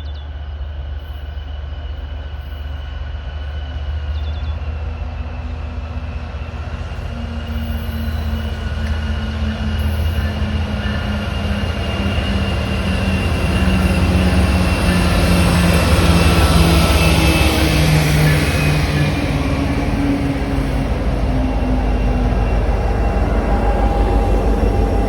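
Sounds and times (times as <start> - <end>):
train passing by: 0.0 - 25.0.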